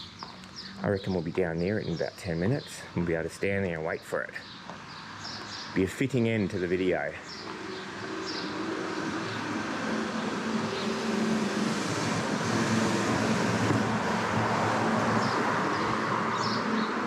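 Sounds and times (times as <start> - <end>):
passing car engine and tyres: 0.0 - 17.0.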